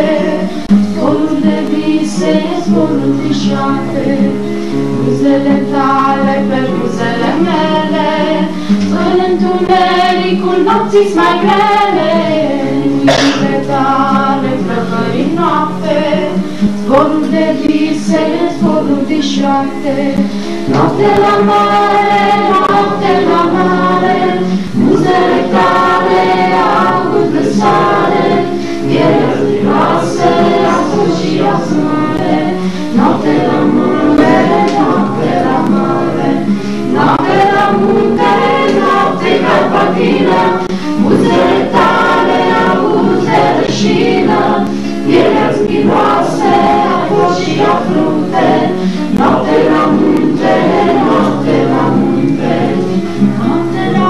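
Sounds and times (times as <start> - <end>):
group singing together: 0.0 - 54.0
strummed acoustic guitar: 0.0 - 54.0.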